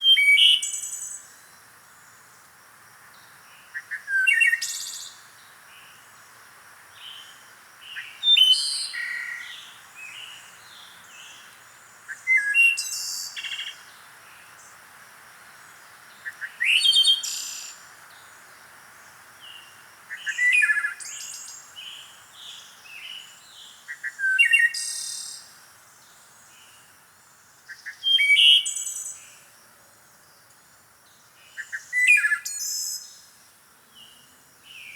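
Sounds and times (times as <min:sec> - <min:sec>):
faint steady hiss: 0:00.0 - 0:34.9
songbirds singing: 0:03.1 - 0:14.8, 0:15.5 - 0:34.9.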